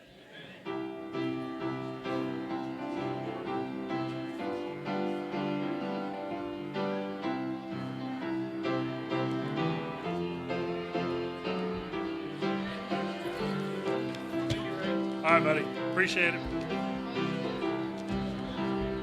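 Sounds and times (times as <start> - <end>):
keyboard playing chords: 0.7 - 19.0.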